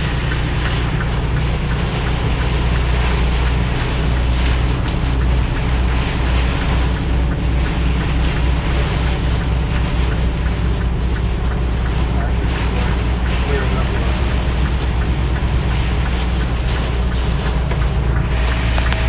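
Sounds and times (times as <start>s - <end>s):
hail and rain drumming on truck cab: 0.0s - 19.0s
road noise: 0.0s - 19.0s
truck engine droning: 0.0s - 19.0s.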